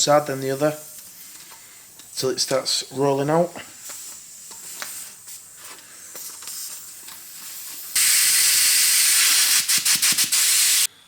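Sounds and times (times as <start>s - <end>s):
air hissing out of tyre: 0.0s - 2.2s, 3.6s - 11.0s.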